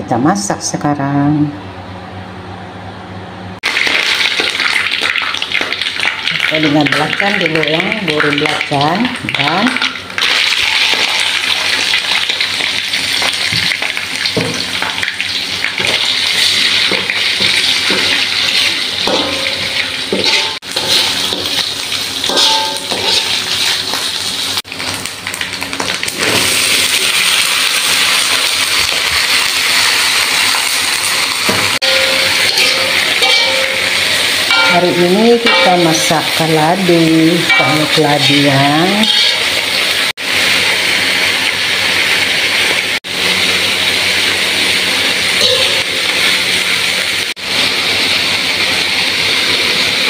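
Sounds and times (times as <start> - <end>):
oil sizzling in a wok: 3.6 - 50.0.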